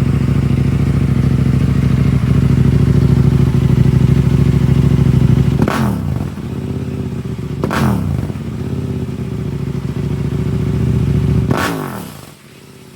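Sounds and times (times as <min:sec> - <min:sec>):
motorcycle engine revving: 0:00.0 - 0:12.9.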